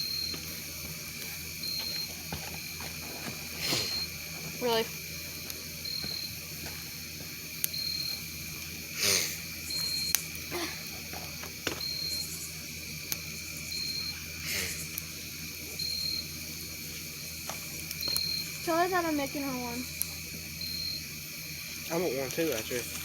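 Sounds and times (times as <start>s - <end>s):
campfire popping: 0.0s - 23.0s
insect chirping: 0.0s - 23.0s
insect drone: 0.0s - 23.0s.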